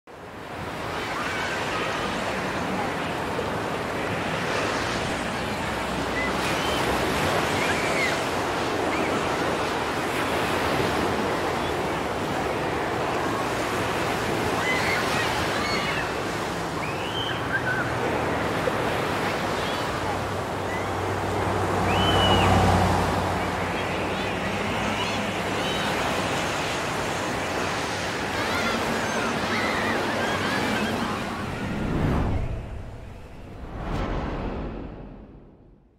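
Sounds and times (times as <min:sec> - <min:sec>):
water washing like waves: 0:00.2 - 0:35.5.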